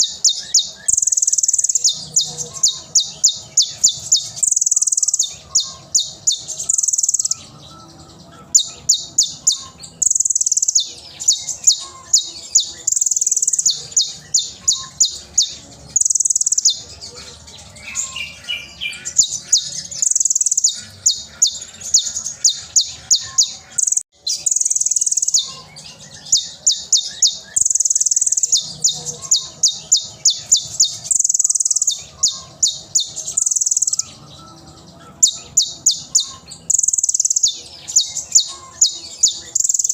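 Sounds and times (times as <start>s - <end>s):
sunbird singing high-pitched: 0.0s - 39.9s.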